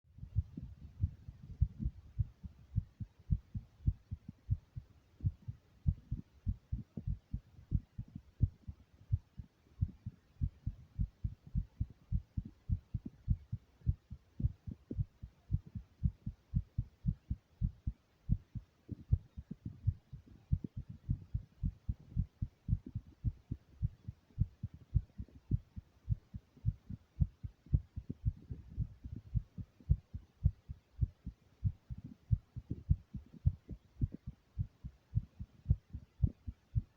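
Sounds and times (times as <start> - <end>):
heart beating: 0.2 - 36.9.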